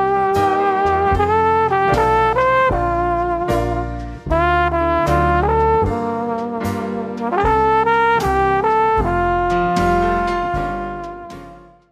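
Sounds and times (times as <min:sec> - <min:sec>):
steady drum beat: 0:00.0 - 0:11.5
brass lead playing held notes: 0:00.0 - 0:11.8.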